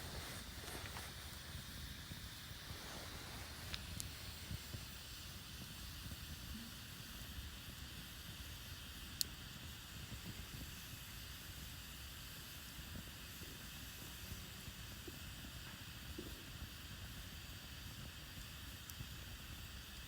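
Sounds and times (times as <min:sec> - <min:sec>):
campfire hissing and rumbling: 0:00.0 - 0:20.0
fire crackles: 0:00.0 - 0:20.0.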